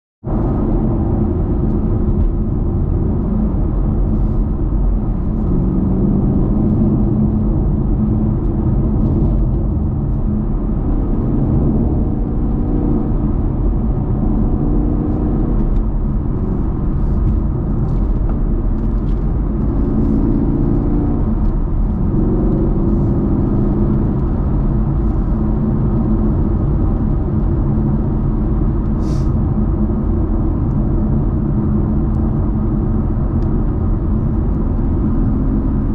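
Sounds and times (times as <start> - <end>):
car engine running: 0.2 - 35.9.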